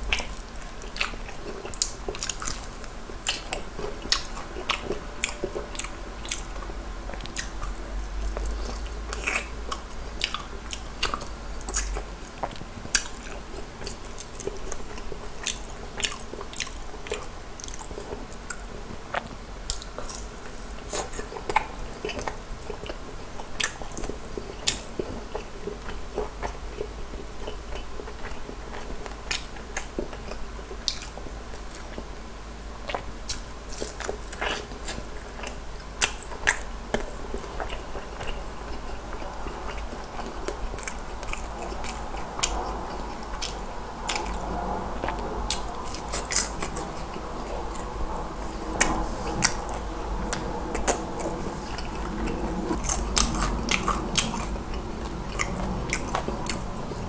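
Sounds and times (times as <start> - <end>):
chewing: 0.0 - 32.2, 32.8 - 57.0
crunching fried chicken: 0.0 - 57.0.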